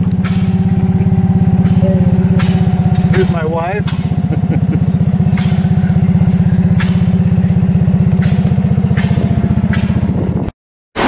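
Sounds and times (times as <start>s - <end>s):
small engine running steadily: 0.0s - 10.5s.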